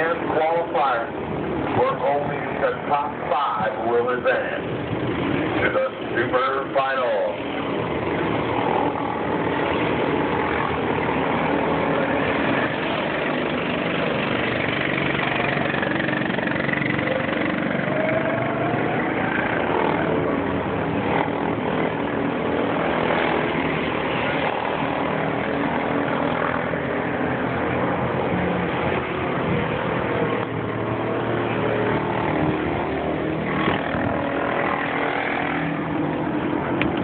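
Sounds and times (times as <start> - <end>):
racing kart engines: 0.0 - 37.0.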